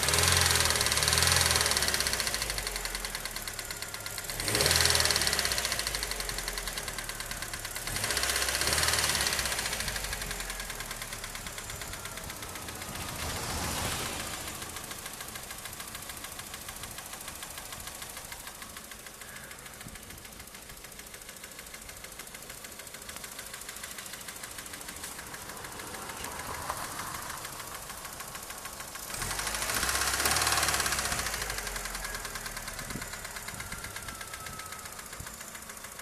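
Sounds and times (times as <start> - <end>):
car engine with tapping knock: 0.0 - 36.0.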